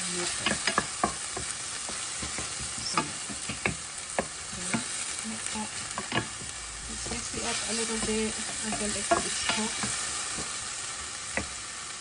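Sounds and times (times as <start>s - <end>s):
wooden spoon scraping a pan: 0.0s - 11.6s
tomatoes sizzling in oil: 0.0s - 12.0s.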